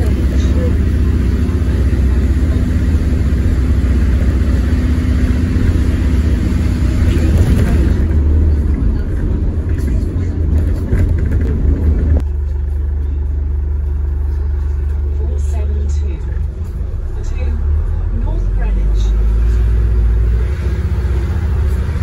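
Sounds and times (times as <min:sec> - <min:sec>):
bus interior rumble: 0:00.0 - 0:22.0.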